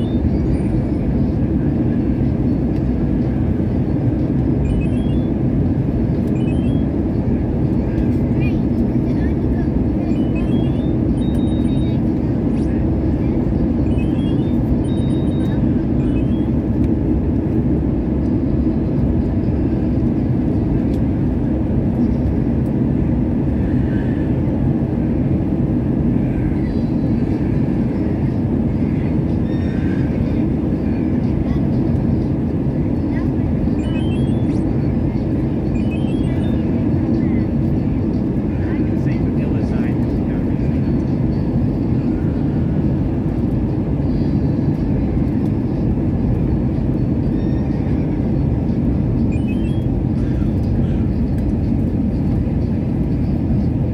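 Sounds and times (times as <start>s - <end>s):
airliner engine rumble in cabin: 0.0s - 53.9s.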